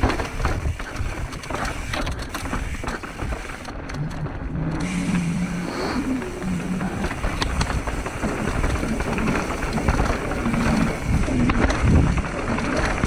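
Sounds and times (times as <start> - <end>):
bike rattling and knocking: 0.0 - 13.0
tyres rolling over ground: 0.0 - 13.0
wind buffeting microphone: 0.0 - 13.0.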